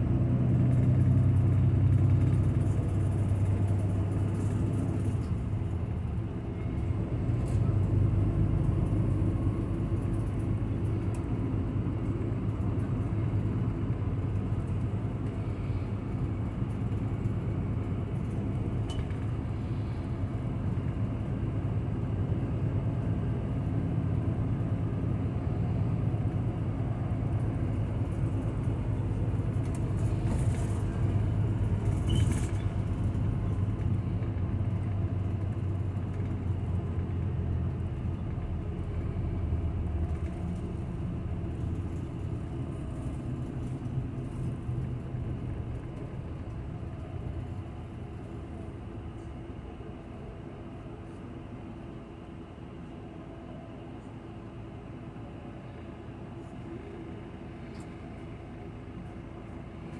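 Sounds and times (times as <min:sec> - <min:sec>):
bus engine drone: 0:00.0 - 0:59.9
road rumble: 0:00.0 - 0:59.9.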